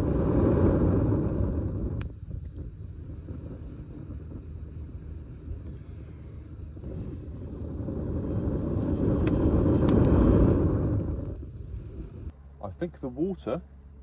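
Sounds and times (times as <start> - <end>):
fire crackling: 0.0 - 12.3
kettle rumbling to the boil: 0.0 - 12.3.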